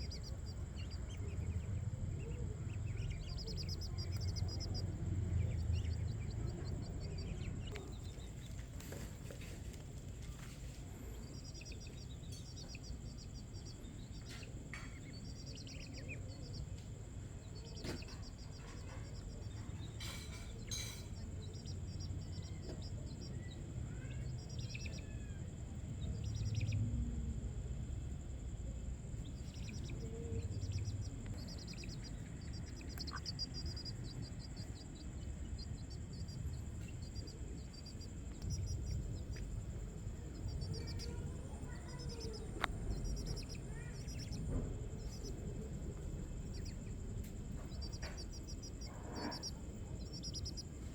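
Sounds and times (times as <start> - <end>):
rapid chirping trills: 0.0 - 26.8, 29.0 - 50.9
high insect drone: 0.0 - 50.9
low background rumble: 0.0 - 50.9.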